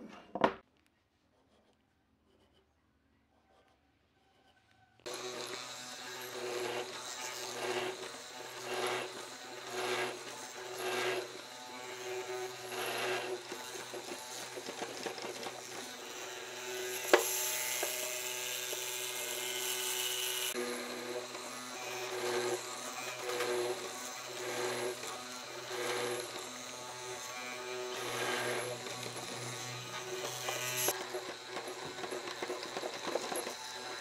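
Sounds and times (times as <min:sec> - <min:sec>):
mortising machine chiselling wood: 0:05.1 - 0:34.0.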